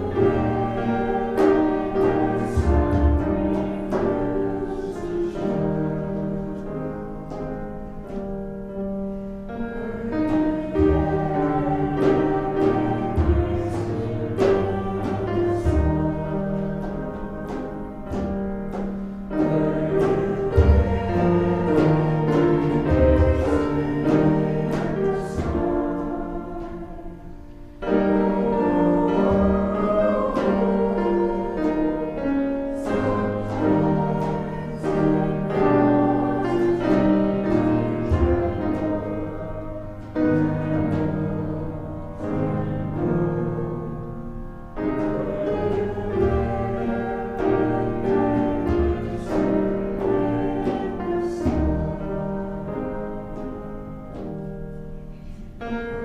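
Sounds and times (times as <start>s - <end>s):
congregation singing a hymn: 0.0s - 56.0s
keyboard accompaniment: 0.0s - 56.0s.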